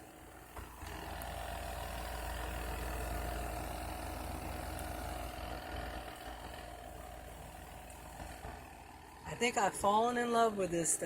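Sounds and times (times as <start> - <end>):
spin-dryer motor humming: 0.0 - 11.0.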